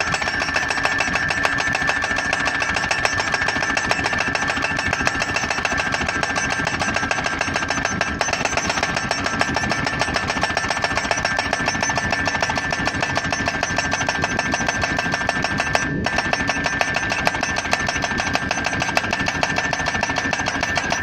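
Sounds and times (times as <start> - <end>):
steady ringing tone: 0.0 - 21.0.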